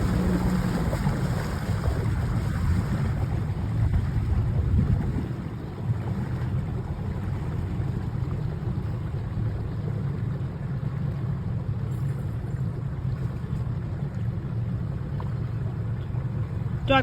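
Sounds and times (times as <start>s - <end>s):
boat engine droning: 0.0s - 17.0s
wind and water rushing: 0.0s - 17.0s.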